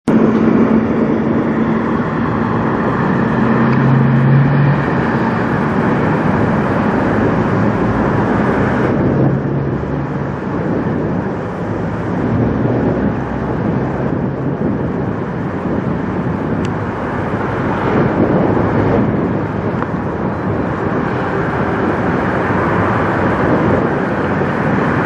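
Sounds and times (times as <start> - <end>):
road traffic noise: 0.0 - 25.0
truck diesel engine passing: 0.1 - 25.0.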